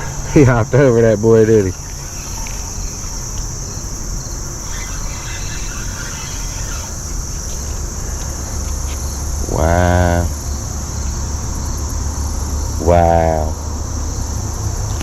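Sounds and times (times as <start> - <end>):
insects chirping: 0.0 - 15.0
low steady rumble: 0.0 - 15.0.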